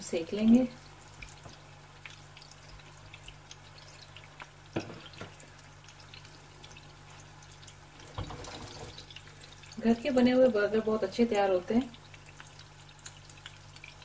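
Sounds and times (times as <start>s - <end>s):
patty frying in a pan: 0.0s - 14.0s.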